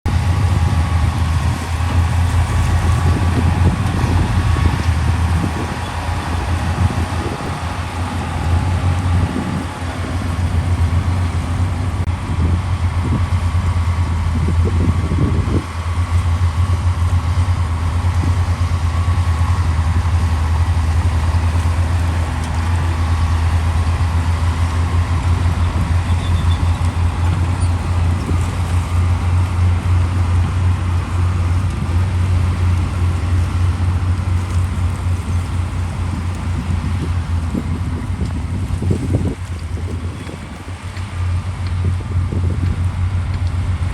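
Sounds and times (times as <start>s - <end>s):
diesel machinery engine drone: 0.0s - 43.9s.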